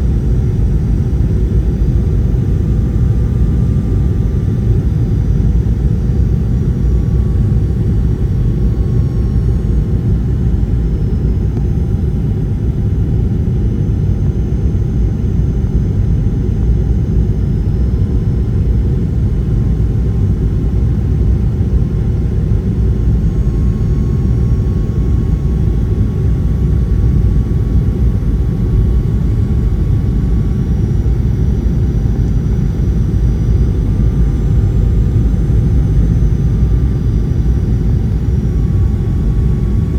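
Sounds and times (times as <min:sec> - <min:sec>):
jet engine rumble and airflow: 0:00.0 - 0:39.9.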